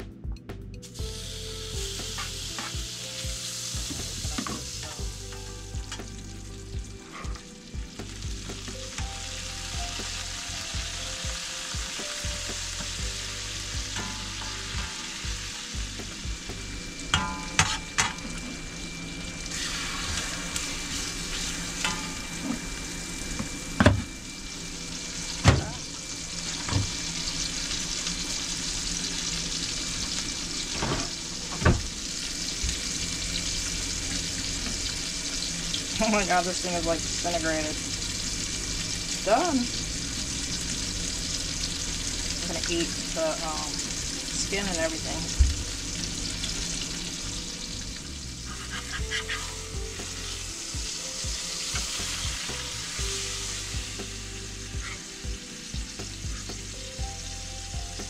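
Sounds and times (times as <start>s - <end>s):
food sizzling in frying pan: 0.8s - 58.0s.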